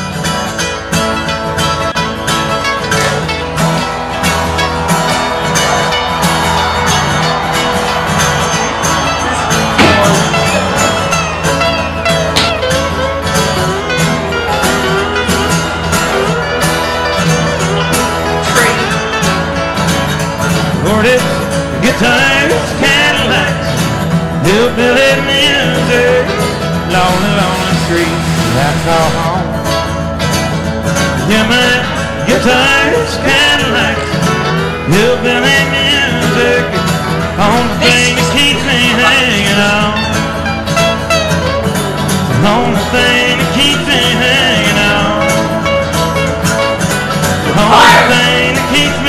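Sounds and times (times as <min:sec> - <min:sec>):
plucked guitar music with beat: 0:00.0 - 0:49.0.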